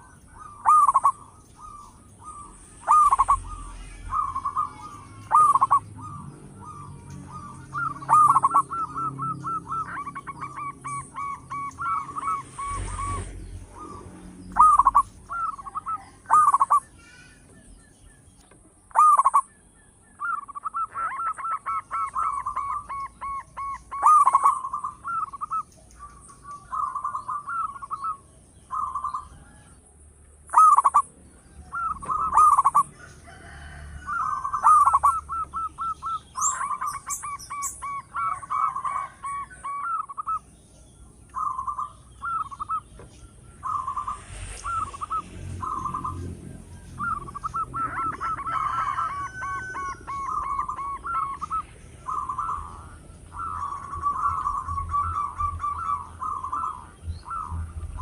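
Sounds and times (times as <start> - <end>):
dove cooing: 0.0 - 17.3, 18.9 - 29.8, 30.5 - 58.0.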